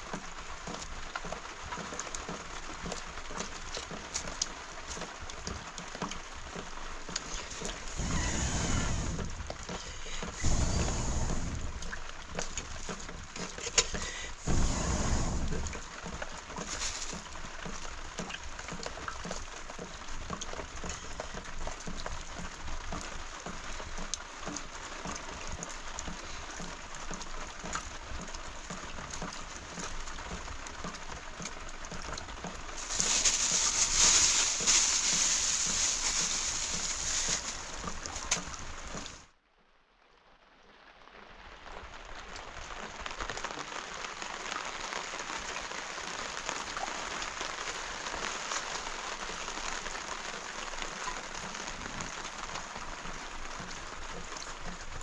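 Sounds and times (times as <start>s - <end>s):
rain patter: 0.0s - 55.0s.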